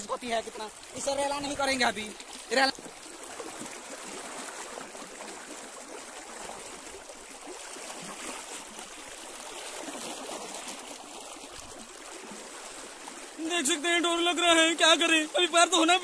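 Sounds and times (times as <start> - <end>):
river water rushing and splashing: 0.0 - 16.0.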